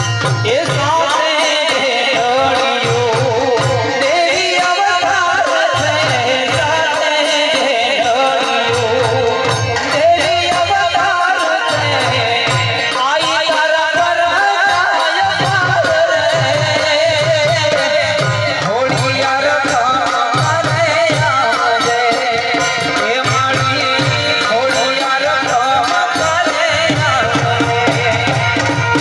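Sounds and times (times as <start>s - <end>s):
fast rattling percussion: 0.0s - 29.0s
steady drum beat: 0.0s - 29.0s.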